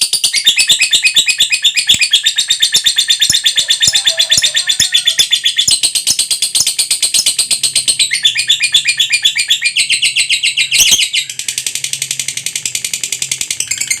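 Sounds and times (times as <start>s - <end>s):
lovebird chattering trill: 0.0s - 14.0s.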